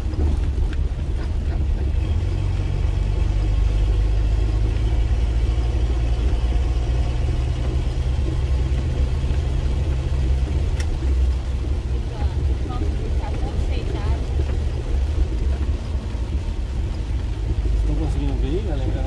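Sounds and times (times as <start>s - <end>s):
engine and road drone: 0.0s - 19.0s
tyre and rain noise: 0.0s - 19.0s.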